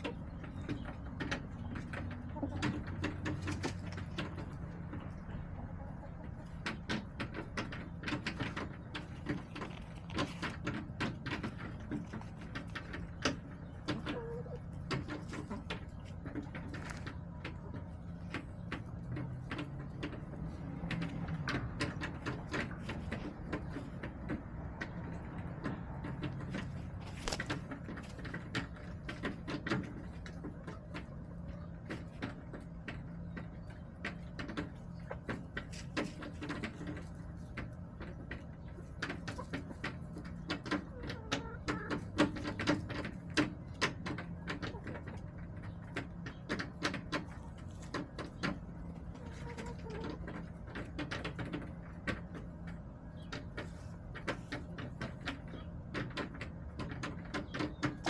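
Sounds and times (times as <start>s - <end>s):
hens clucking: 0.0s - 58.0s
hens pecking and scratching: 0.0s - 58.0s.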